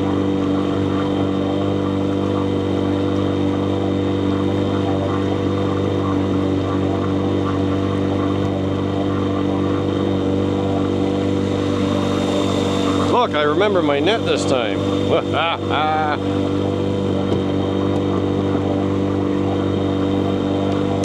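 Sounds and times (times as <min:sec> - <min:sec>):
boat motor droning: 0:00.0 - 0:21.0.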